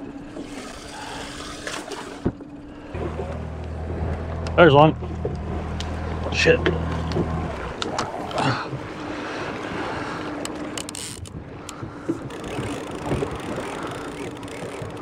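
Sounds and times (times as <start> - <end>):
low steady hum: 0.0 - 15.0
water slapping boat hull: 0.0 - 15.0
fishing reel cranking: 0.4 - 8.0, 10.4 - 15.0
wind on microphone: 2.2 - 15.0.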